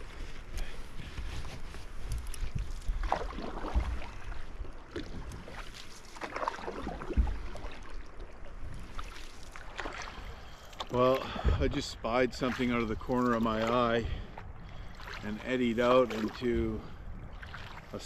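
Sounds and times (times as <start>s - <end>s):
wind rumble on microphone: 0.0s - 5.7s, 6.7s - 9.0s, 11.2s - 18.0s
paddle swishing through water: 0.0s - 18.0s.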